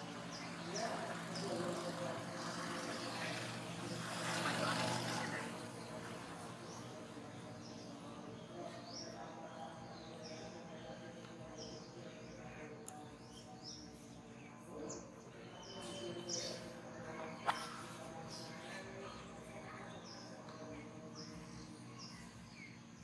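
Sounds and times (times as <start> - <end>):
bird chirping: 0.0 - 23.0
outdoor background noise: 0.0 - 23.0.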